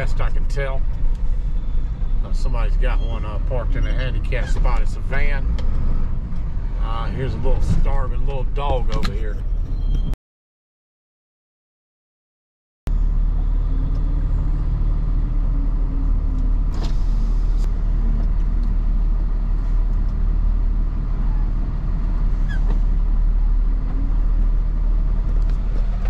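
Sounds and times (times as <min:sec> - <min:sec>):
truck engine rumble: 0:00.0 - 0:10.2, 0:12.9 - 0:26.0.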